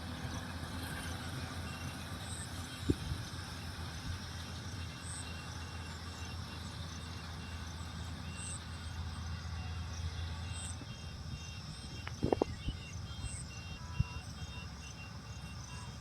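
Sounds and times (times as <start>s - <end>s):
combine harvester engine hum: 0.0s - 16.0s.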